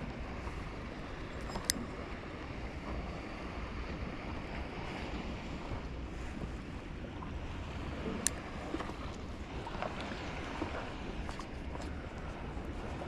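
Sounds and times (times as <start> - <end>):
sea water lapping: 0.0 - 13.0
wind rumbling on microphone: 0.0 - 13.0.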